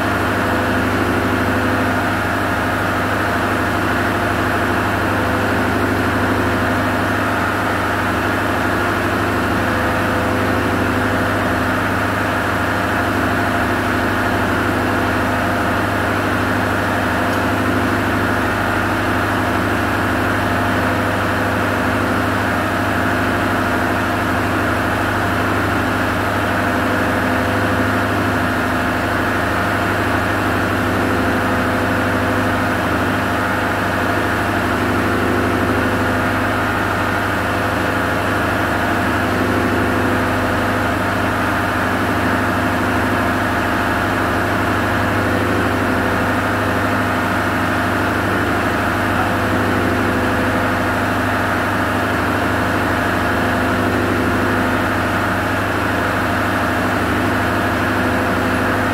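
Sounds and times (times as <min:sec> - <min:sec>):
diesel machinery droning: 0:00.0 - 0:58.9.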